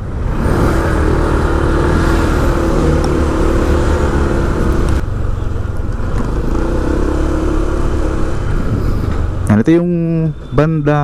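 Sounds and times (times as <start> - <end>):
engine hum: 0.0 - 10.6
road rumble: 0.0 - 11.0.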